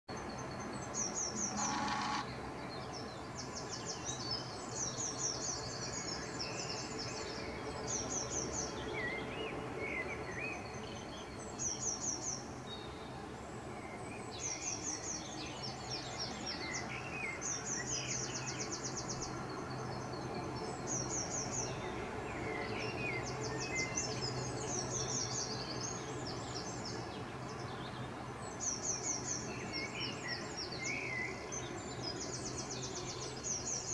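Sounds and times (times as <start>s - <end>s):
songbirds singing: 0.1s - 33.9s.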